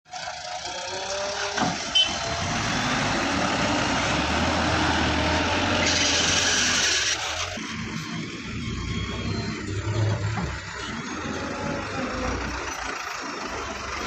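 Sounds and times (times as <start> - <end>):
diesel engine rumble: 0.1 - 14.0.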